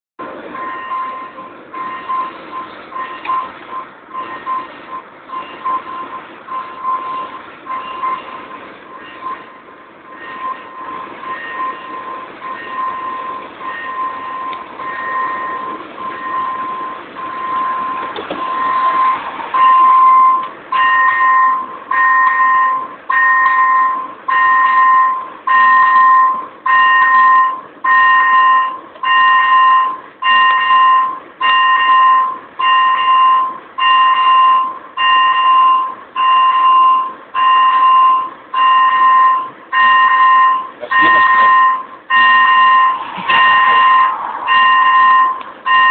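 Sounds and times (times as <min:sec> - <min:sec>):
level crossing warning beeps: 0:00.5 - 0:45.9.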